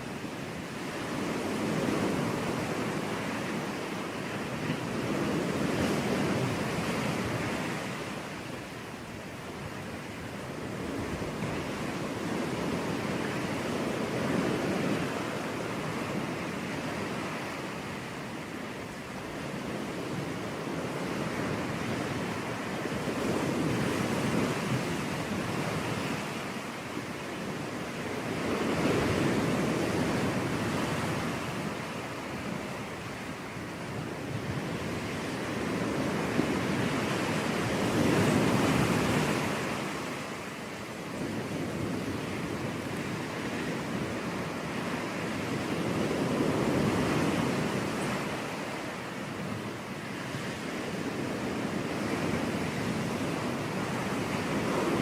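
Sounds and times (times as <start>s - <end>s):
sea waves breaking on a beach: 0.0s - 55.0s.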